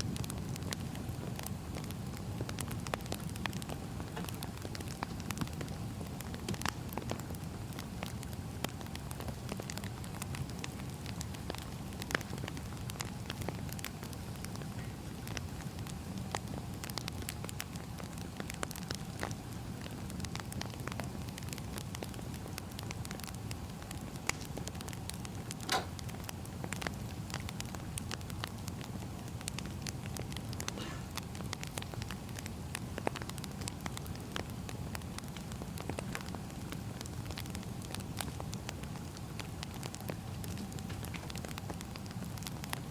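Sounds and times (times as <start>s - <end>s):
loud snap of fire: 0.0s - 42.9s
wood fire crackling: 0.0s - 42.9s.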